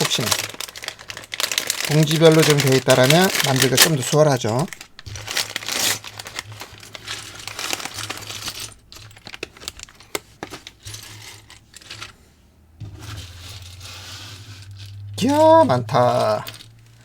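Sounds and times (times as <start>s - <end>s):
plastic bags crinkling: 0.0s - 12.2s, 12.9s - 17.0s.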